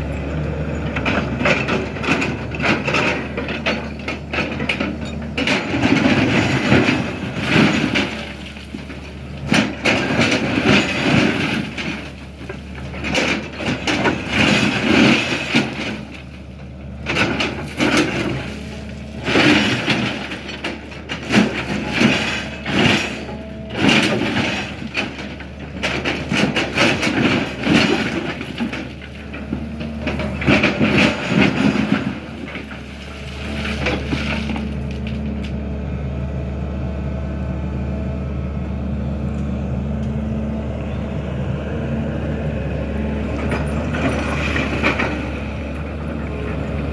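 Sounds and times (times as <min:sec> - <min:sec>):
excavator diesel engine running: 0:00.0 - 0:46.9
excavator bucket knocking and scraping: 0:00.1 - 0:35.7, 0:42.8 - 0:46.9.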